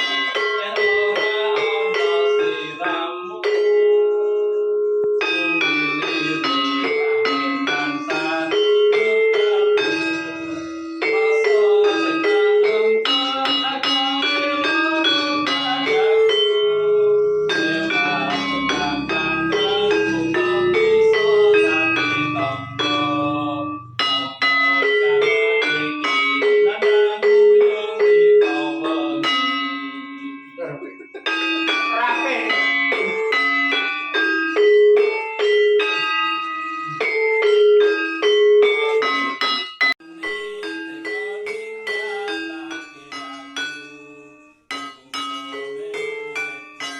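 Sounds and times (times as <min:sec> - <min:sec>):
gamelan metallophone notes: 0:00.0 - 0:46.9.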